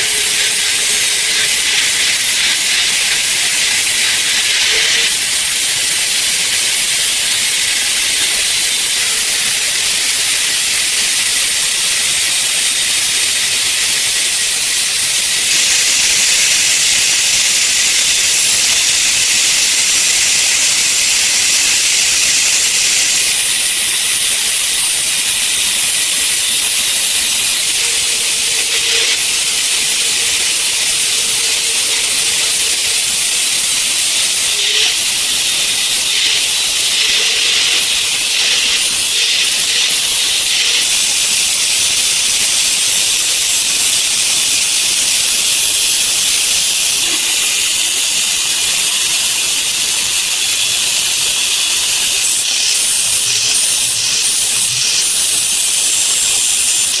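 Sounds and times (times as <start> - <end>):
loud high-pitched hiss: 0.0 - 57.0.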